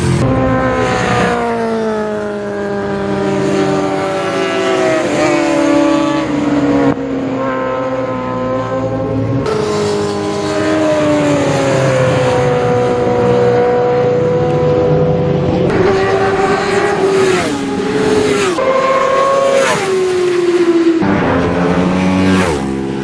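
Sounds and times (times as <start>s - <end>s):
motorcycle engines revving high: 0.0s - 23.0s.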